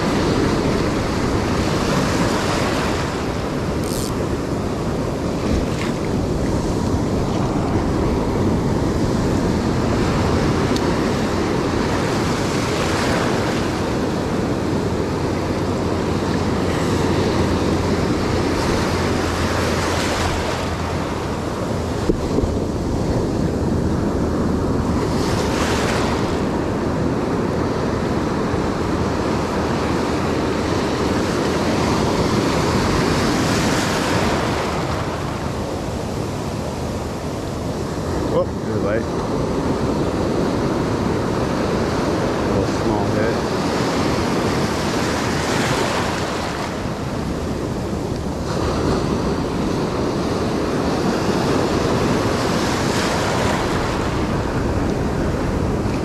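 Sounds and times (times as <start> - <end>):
ocean surf breaking: 0.0 - 56.0
wind rumbling on microphone: 0.0 - 56.0.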